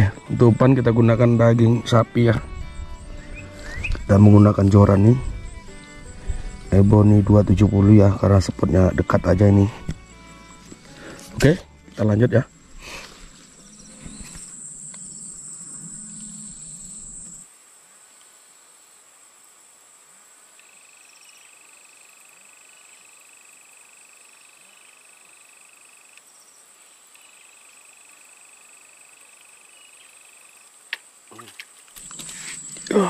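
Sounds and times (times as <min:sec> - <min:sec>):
insects shrilling: 0:00.0 - 0:17.5, 0:20.5 - 0:33.0
lower insect trill: 0:00.0 - 0:33.0.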